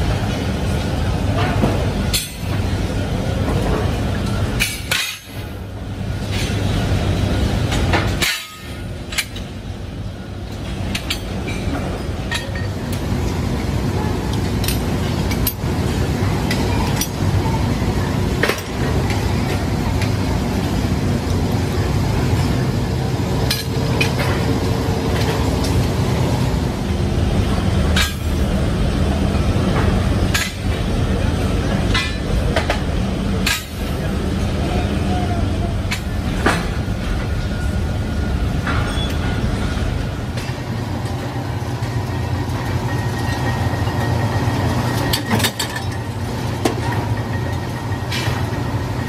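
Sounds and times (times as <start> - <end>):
low factory machinery hum: 0.0 - 49.0.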